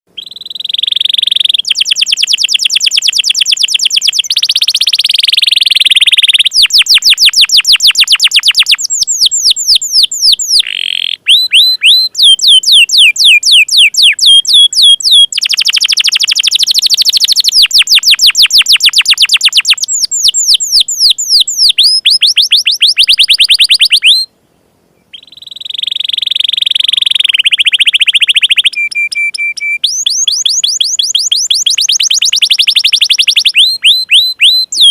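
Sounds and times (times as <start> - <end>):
canary singing in trills: 0.1 - 24.3, 25.0 - 34.9.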